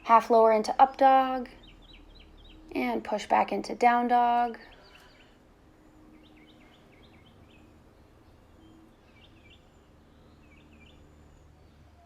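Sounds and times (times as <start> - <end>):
faint bird chirping: 0.0 - 12.0
quiet background hiss: 0.0 - 12.0.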